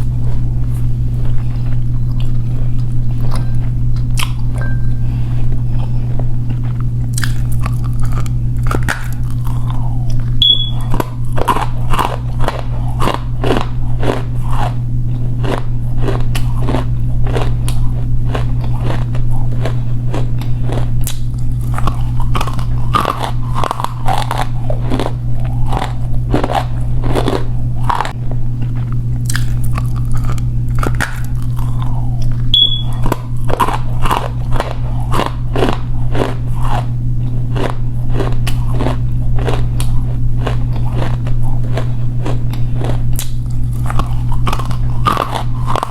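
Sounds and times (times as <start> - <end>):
steady low hum: 0.0 - 45.9
crisp crunches of chewing clay: 5.3 - 45.9.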